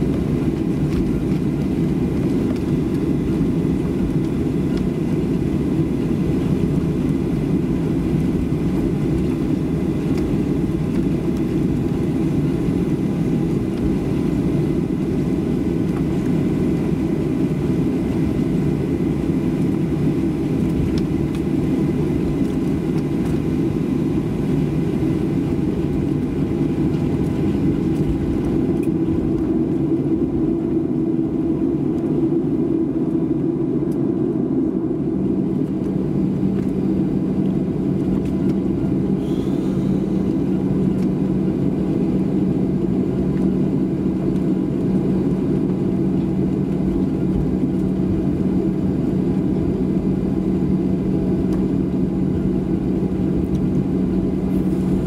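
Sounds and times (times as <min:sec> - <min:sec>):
jet engine low drone: 0:00.0 - 0:55.0.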